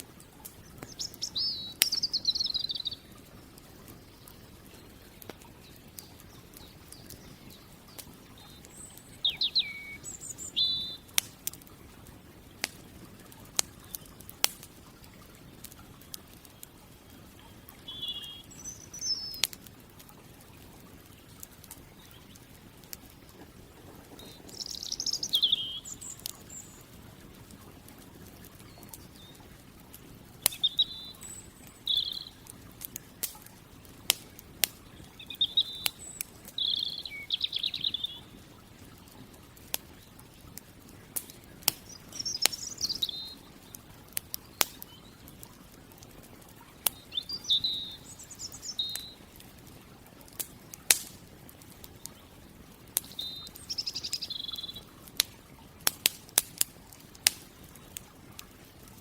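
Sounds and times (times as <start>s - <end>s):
campfire crackling: 0.0s - 59.0s
songbirds chirping: 0.0s - 59.0s.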